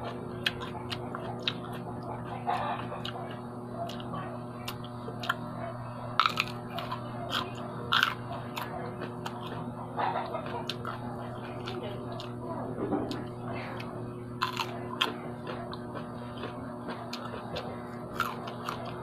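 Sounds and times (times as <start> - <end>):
person chewing and biting: 0.0 - 5.5, 6.1 - 12.4, 13.0 - 19.0
steady low hum: 0.0 - 19.0.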